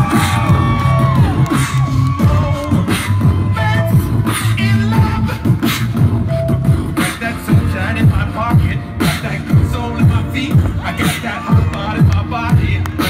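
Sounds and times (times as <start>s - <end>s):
beatboxing into a microphone: 0.0s - 13.0s
held bass line: 0.0s - 13.0s.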